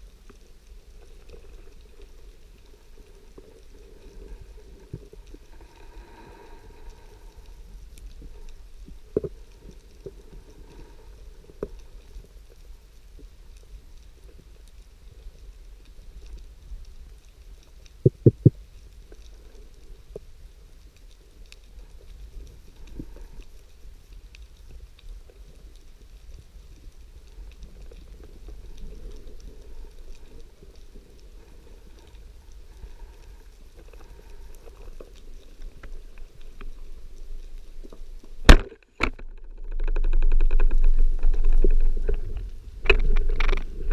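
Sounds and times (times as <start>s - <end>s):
underwater low rumble: 0.0s - 43.9s
faint clicks underwater: 0.2s - 43.9s.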